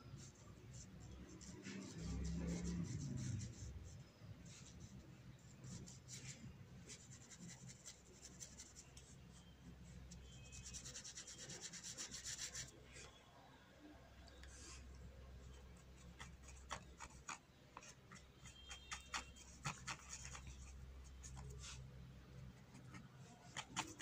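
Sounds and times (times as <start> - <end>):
paintbrush strokes on paper: 0.1 - 13.2, 14.4 - 14.9, 15.6 - 24.0.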